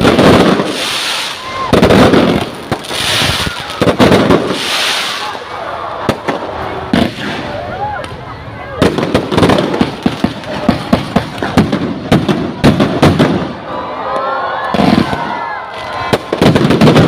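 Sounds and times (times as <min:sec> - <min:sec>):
fireworks banging: 0:00.0 - 0:13.7, 0:14.7 - 0:17.0
crowd cheering and shouting: 0:00.7 - 0:11.2, 0:12.7 - 0:17.0.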